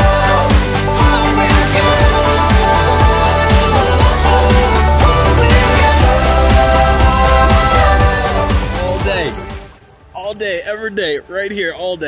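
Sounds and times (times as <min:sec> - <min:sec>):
pop music with strong bass: 0:00.0 - 0:09.8.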